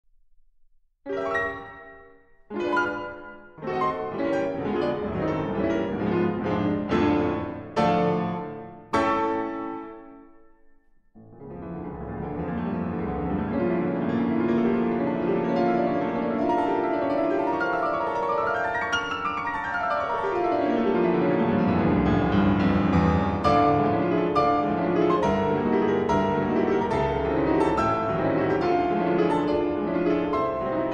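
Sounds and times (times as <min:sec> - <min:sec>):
piano music: 0:01.1 - 0:30.9.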